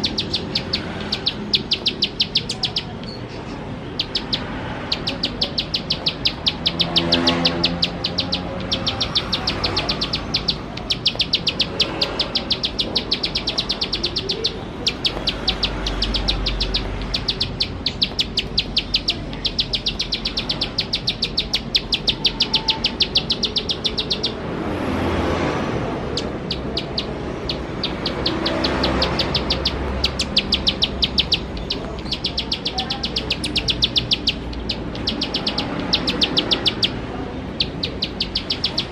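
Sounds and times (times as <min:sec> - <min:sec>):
bird sharp clicking calls: 0:00.0 - 0:24.4, 0:26.2 - 0:38.9.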